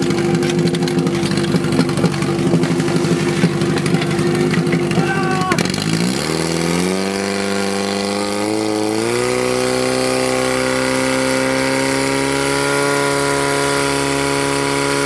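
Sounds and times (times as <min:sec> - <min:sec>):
pump engine at full throttle: 0:00.0 - 0:15.0.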